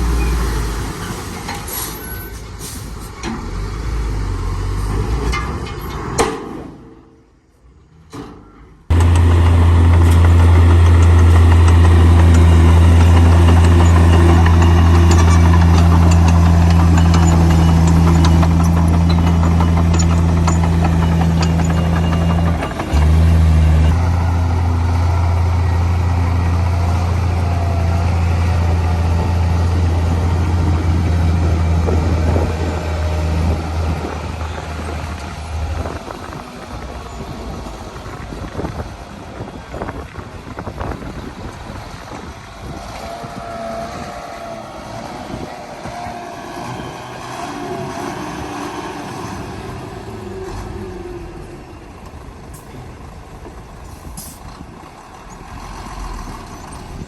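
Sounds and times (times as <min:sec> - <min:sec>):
heavy diesel machinery engine drone: 0:00.0 - 0:06.0, 0:06.8 - 0:57.0.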